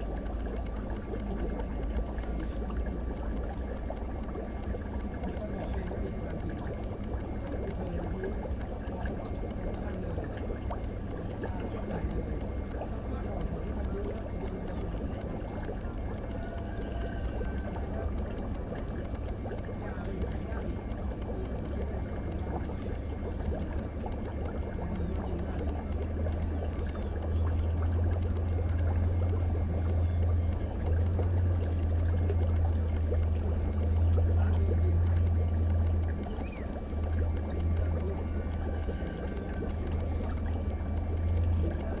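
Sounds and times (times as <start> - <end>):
aquarium water trickling: 0.0 - 42.0.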